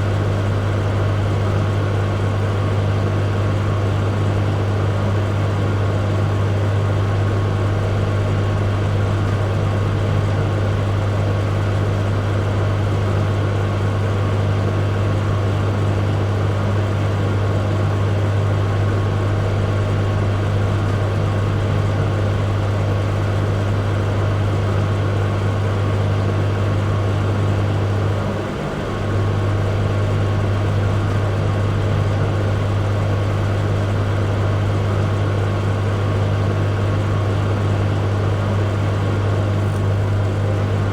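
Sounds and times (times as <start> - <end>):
microwave oven hum: 0.0 - 40.9.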